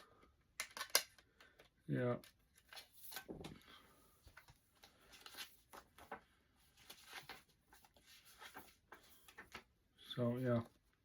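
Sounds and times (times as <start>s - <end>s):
clicks and rustles of cd cases: 0.4s - 9.8s.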